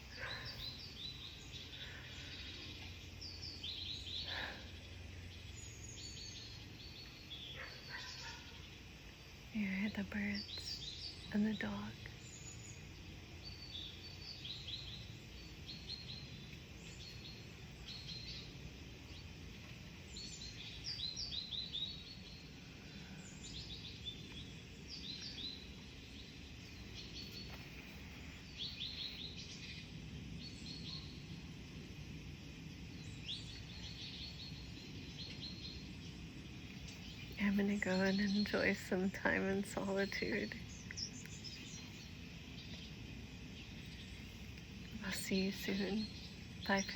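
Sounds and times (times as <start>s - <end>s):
low steady background hum: 0.0s - 46.9s
small birds chirping: 0.0s - 46.9s.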